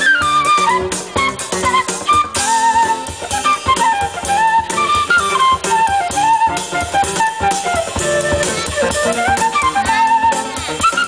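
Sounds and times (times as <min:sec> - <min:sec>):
drum kit: 0:00.0 - 0:11.0
electric guitar: 0:00.0 - 0:11.0
wind instrument melody: 0:00.0 - 0:11.0.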